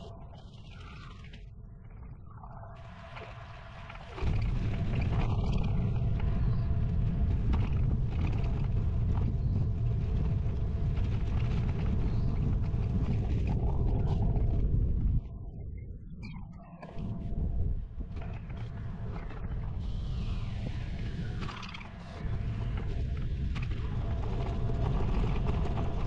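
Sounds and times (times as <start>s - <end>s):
wind buffeting microphone: 2.8s - 16.1s, 17.0s - 26.0s.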